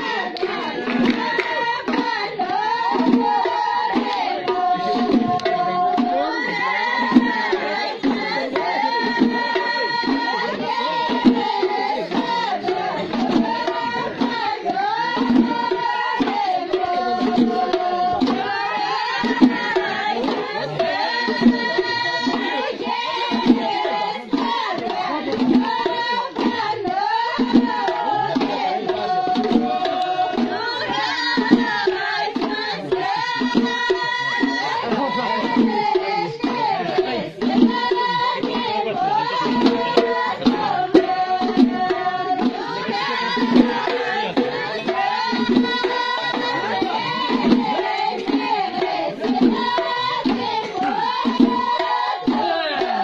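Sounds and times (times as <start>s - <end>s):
frame drums beating: 0.0s - 53.0s
voices singing: 0.0s - 53.0s.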